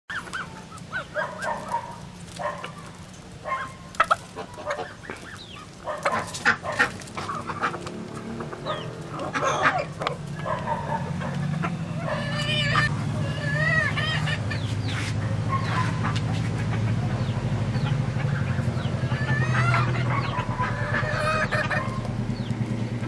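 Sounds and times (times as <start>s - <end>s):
chickens clucking and squawking: 0.1s - 23.0s.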